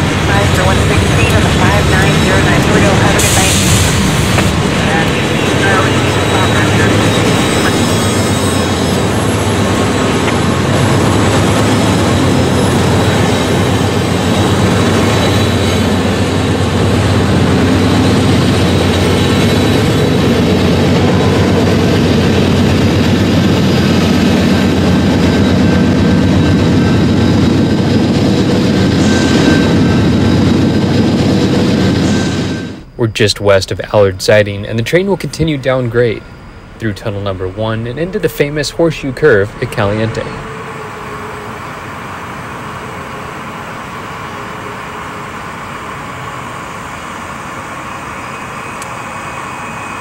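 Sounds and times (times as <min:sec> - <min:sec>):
broad rushing noise: 0:00.0 - 0:50.0
diesel locomotive engine drone: 0:00.0 - 0:50.0.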